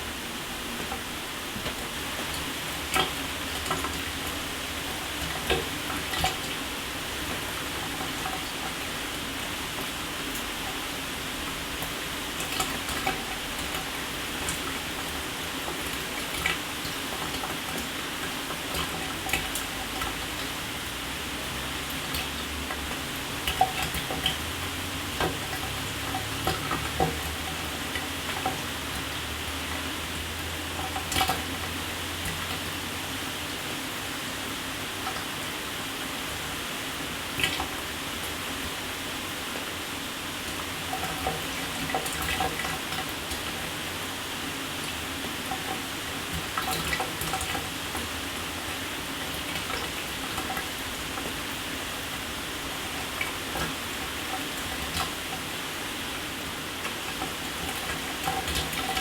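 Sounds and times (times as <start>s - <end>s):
water splashes and drips: 0.3s - 59.0s.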